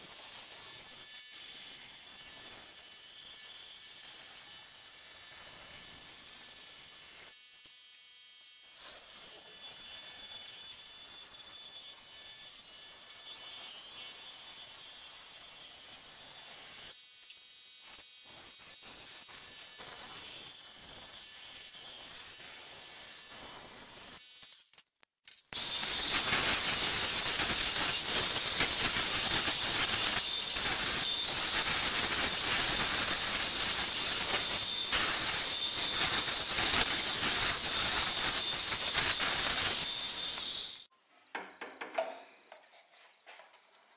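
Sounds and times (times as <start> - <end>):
scroll saw cutting wood: 0.0 - 24.8, 25.5 - 40.9.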